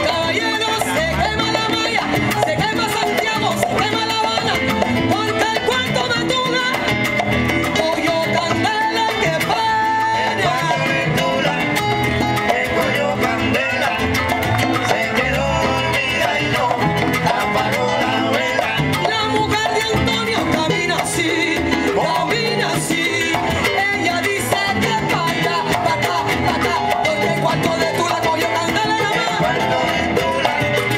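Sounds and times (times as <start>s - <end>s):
live salsa band playing: 0.0s - 30.9s.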